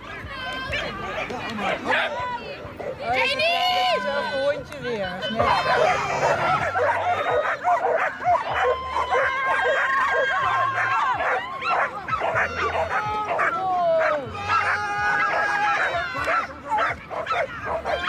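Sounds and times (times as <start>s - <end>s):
dogs barking and howling: 0.7s - 4.0s, 5.4s - 18.0s.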